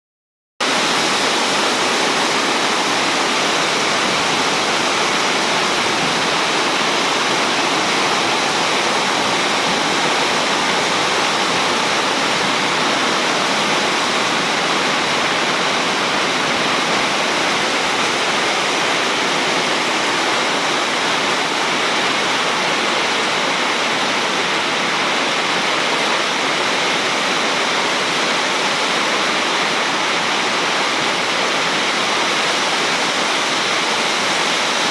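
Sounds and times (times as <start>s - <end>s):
heavy rain pouring: 0.6s - 34.9s.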